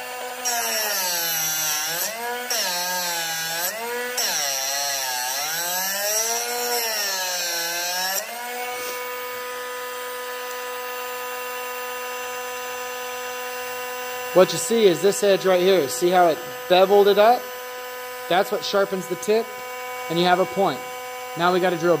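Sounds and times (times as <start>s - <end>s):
drill bit grinding hiss: 0.0s - 22.0s
sharpener motor whining: 0.0s - 22.0s.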